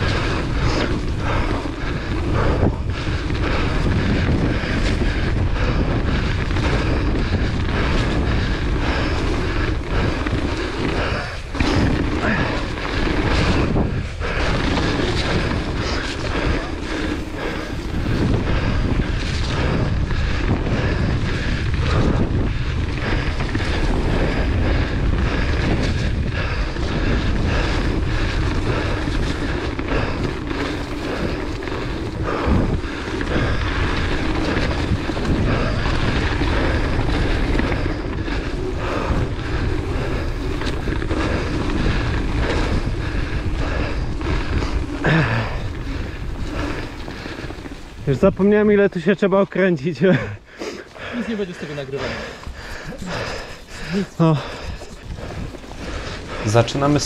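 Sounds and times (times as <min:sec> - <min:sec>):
bike frame and chain rattling: 0:00.0 - 0:57.0
tyres rolling on dirt trail: 0:00.0 - 0:57.0
wind rushing over microphone: 0:00.0 - 0:57.0.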